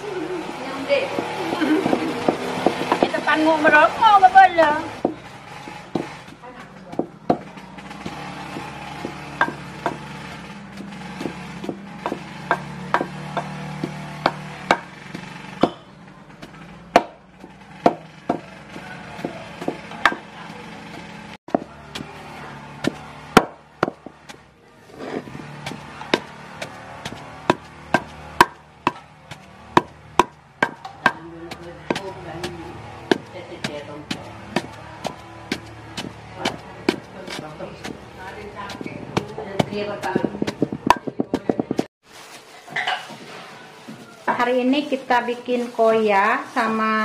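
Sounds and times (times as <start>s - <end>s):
pestle pounding in stone mortar: 1.0s - 41.9s.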